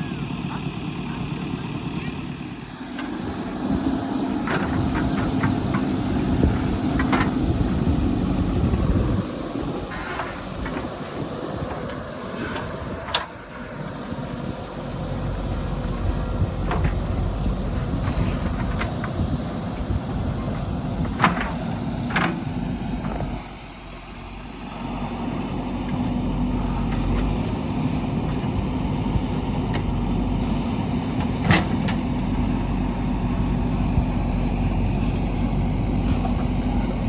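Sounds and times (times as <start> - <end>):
diesel engine revving: 0.0 - 37.0.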